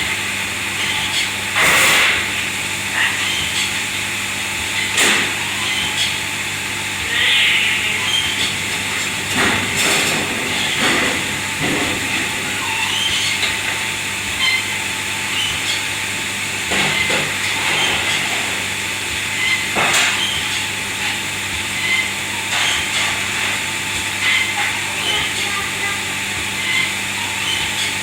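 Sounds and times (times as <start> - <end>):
kitchen machinery hiss and hum: 0.0 - 28.0.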